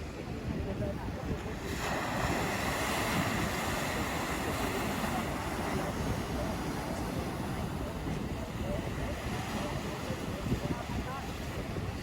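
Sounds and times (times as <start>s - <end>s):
surf washing onto rocks: 0.0s - 12.0s
wind rumble on microphone: 0.0s - 12.0s.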